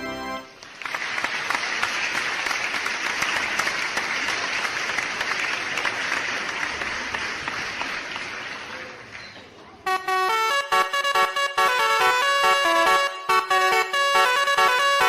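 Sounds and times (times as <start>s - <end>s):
people clapping: 0.0s - 15.0s.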